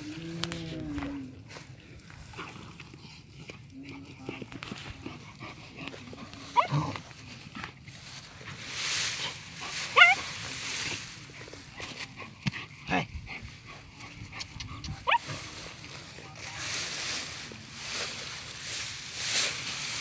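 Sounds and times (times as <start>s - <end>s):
dogs digging and rustling: 0.0s - 20.0s.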